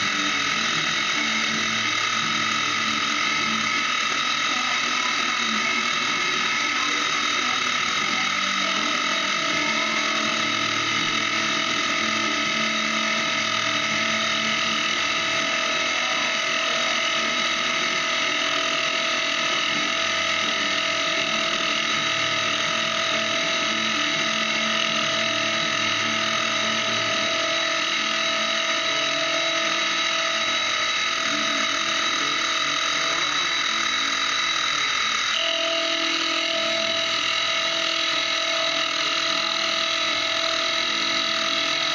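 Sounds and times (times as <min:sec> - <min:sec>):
milling machine cutting metal: 0:00.0 - 0:41.9.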